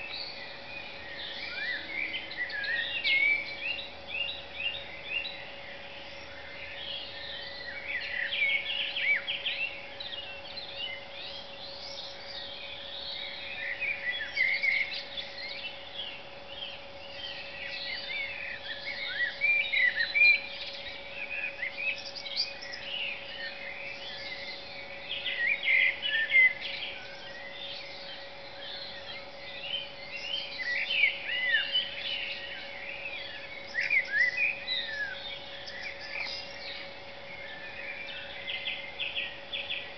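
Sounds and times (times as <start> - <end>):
faint steady hum: 0.0 - 39.9
songbirds singing: 0.0 - 39.9.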